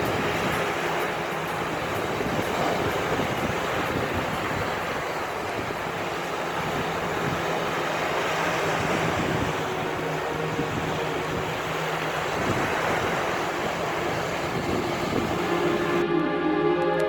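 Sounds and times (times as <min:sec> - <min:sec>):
sea waves washing on shore: 0:00.0 - 0:16.0
wind rumbling on microphone: 0:00.0 - 0:16.0
music with sustained tones: 0:00.0 - 0:17.0.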